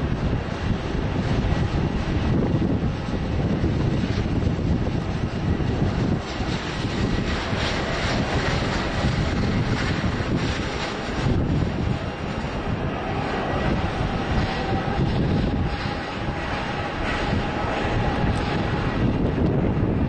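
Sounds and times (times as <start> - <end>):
jet engines running: 0.0 - 20.0
wind buffeting microphone: 0.0 - 20.0.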